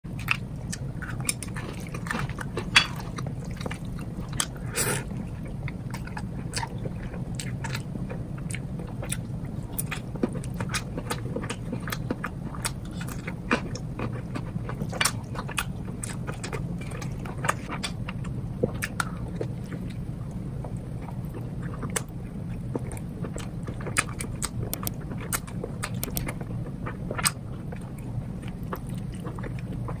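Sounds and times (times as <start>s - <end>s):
steady low hum: 0.0s - 30.0s
chewing: 0.2s - 20.0s, 20.6s - 30.0s.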